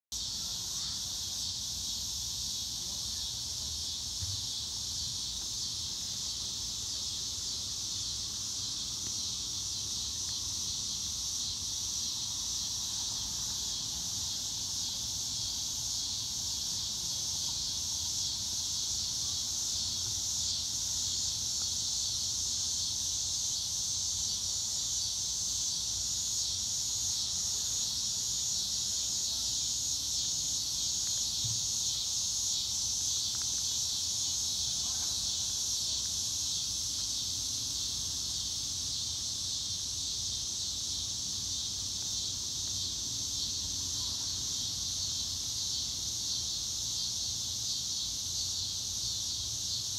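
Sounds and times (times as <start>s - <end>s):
cicadas singing: 0.1s - 49.9s.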